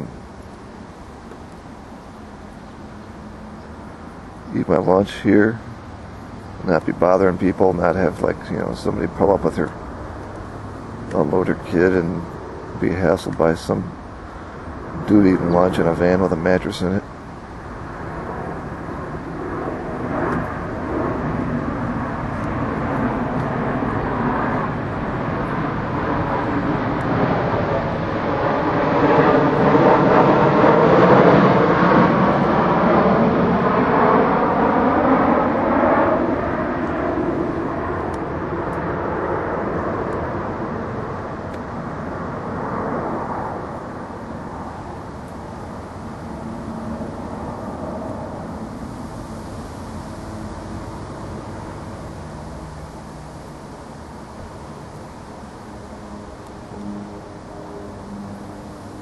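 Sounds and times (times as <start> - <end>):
aircraft flying over: 0.0 - 59.0.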